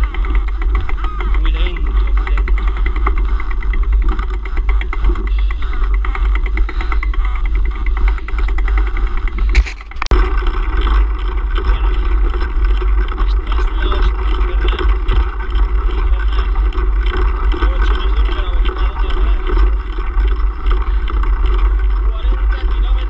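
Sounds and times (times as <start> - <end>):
bike tyres on dirt track: 0.0 - 23.0
wind buffeting microphone: 0.0 - 23.0.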